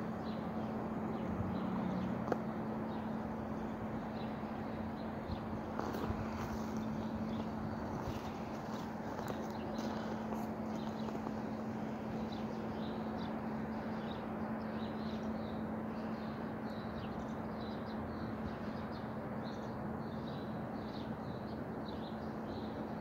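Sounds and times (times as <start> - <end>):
low even hum: 0.0 - 22.8
small birds chirping: 0.1 - 23.0.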